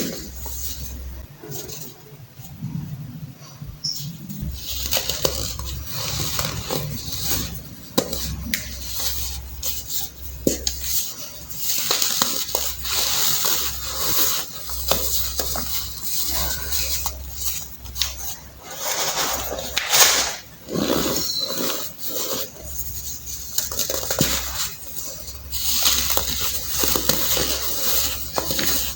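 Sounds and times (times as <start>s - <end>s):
baking soda crunching: 4.4s - 28.9s.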